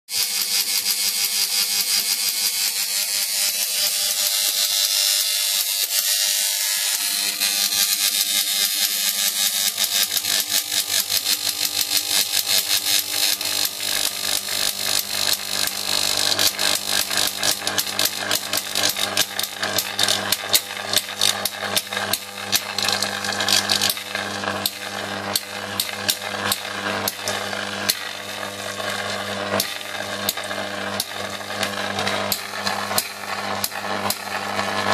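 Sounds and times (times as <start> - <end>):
electric arc hissing and crackling: 0.1 - 34.9
electrical hum: 0.1 - 34.9.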